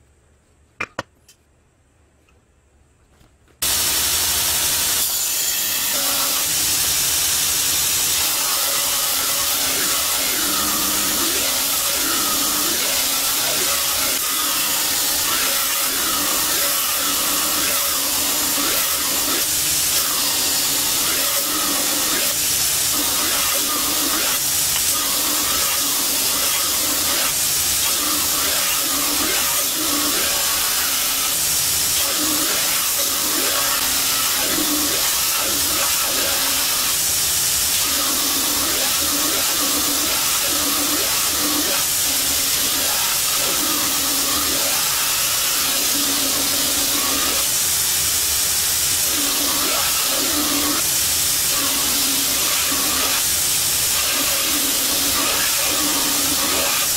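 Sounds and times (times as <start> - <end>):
belt grinder grinding blade: 4.6 - 47.8, 48.8 - 56.9.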